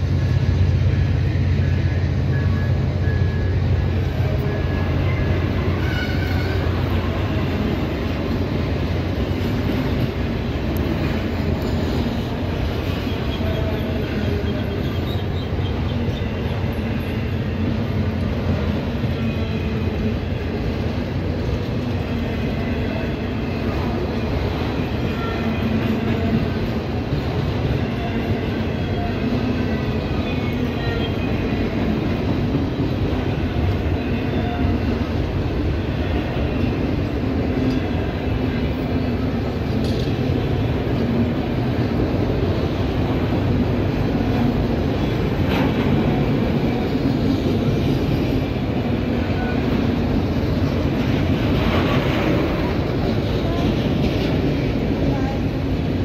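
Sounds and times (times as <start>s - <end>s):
freight train rolling past: 0.0s - 56.0s
steel wheels rumbling on rails: 0.0s - 56.0s.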